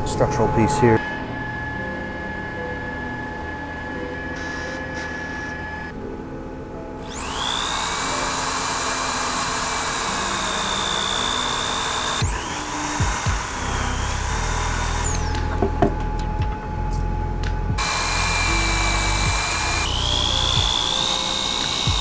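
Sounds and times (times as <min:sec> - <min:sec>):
power tool cutting fiberglass: 0:01.0 - 0:05.9, 0:07.0 - 0:15.9, 0:17.8 - 0:22.0.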